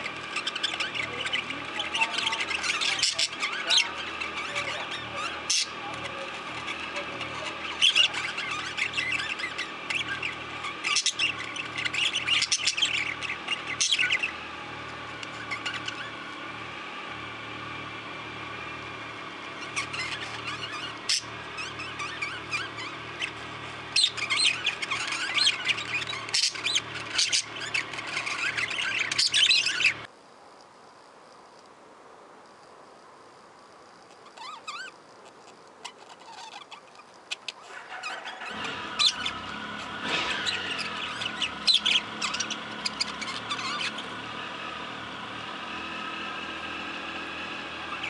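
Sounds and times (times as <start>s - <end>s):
budgerigars chattering and chirping: 0.0s - 17.5s, 18.3s - 30.1s, 34.2s - 34.9s, 35.8s - 48.0s.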